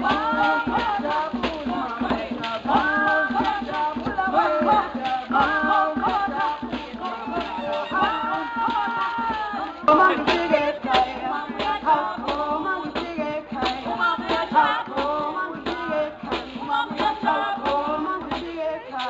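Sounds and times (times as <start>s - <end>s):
people singing: 0.0s - 19.0s
percussion: 0.0s - 19.0s.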